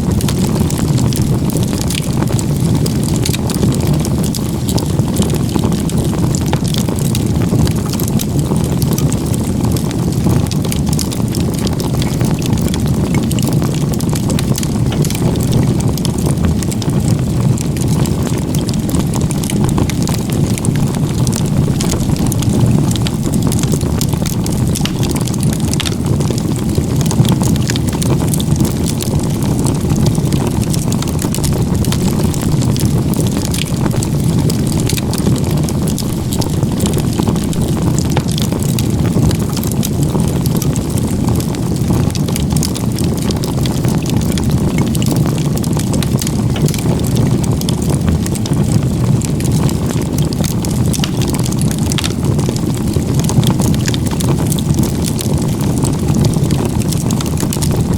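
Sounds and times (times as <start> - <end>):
fire flame rushing: 0.0 - 57.9
wood crackling and popping: 0.0 - 57.9.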